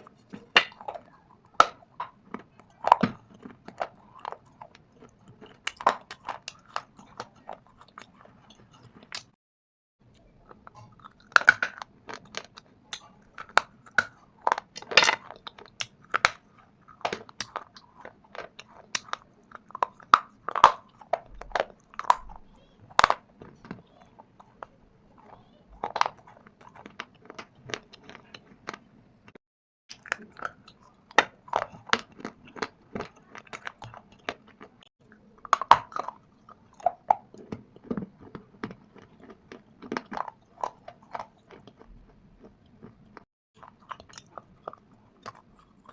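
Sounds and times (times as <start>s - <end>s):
stone and clay being chewed: 0.0s - 9.4s, 10.1s - 45.9s.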